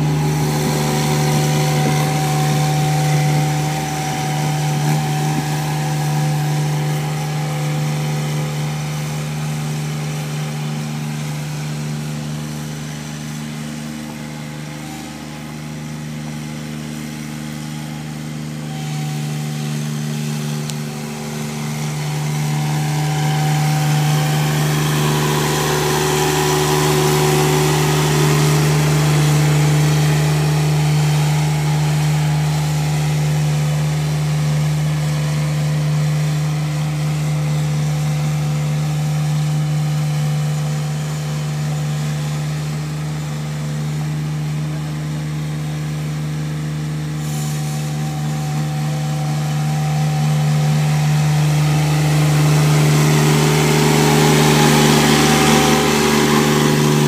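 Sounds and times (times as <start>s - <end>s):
road roller diesel engine: 0.0s - 57.0s.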